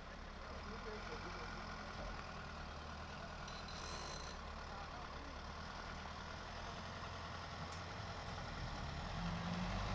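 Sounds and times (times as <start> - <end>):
trucks and cars idling: 0.0 - 9.9.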